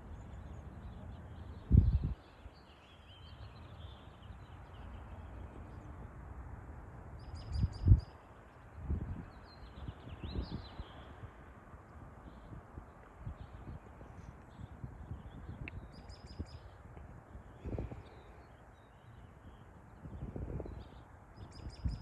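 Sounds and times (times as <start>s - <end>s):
small birds chirping: 0.0s - 6.2s, 7.2s - 22.0s.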